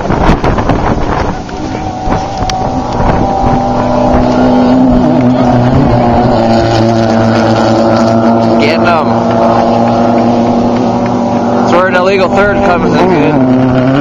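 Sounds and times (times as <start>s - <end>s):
race car engine droning: 0.0s - 14.0s
wind buffeting microphone: 0.0s - 14.0s.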